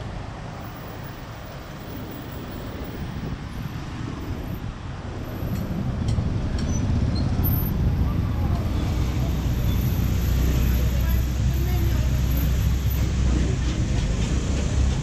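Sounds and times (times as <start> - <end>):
rumble of passing cars: 0.0 - 15.0.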